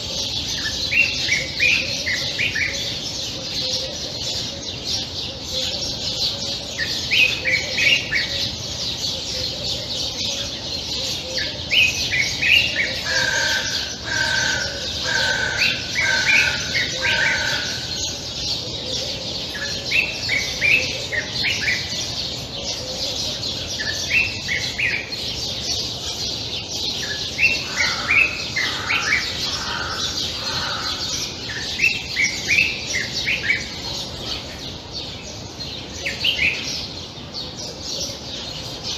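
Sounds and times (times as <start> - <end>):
bird chirpy song: 0.0 - 38.9.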